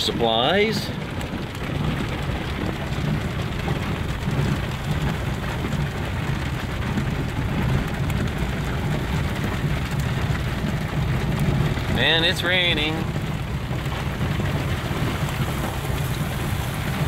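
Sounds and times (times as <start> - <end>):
heavy rain on vehicle roof: 0.0 - 17.0
vehicle engine running: 0.0 - 17.0.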